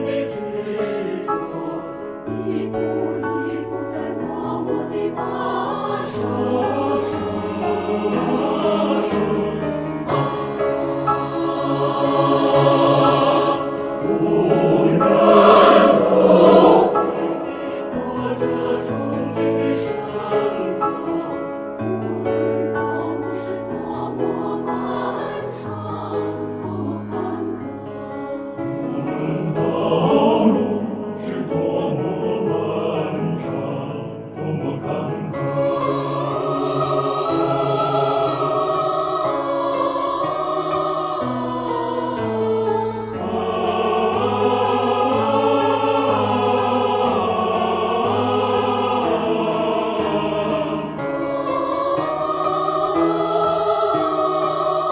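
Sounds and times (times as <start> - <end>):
mixed choir singing: 0.0 - 54.9
piano accompaniment: 0.0 - 54.9.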